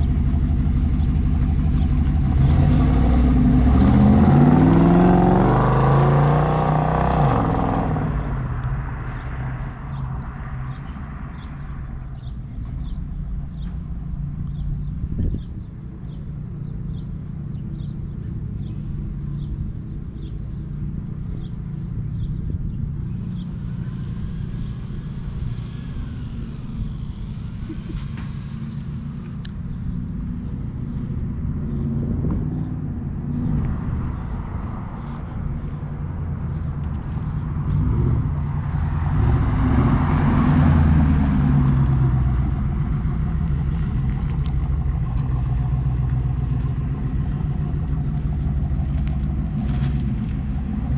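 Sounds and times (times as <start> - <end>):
car engine exhaust rumble: 0.0 - 50.9.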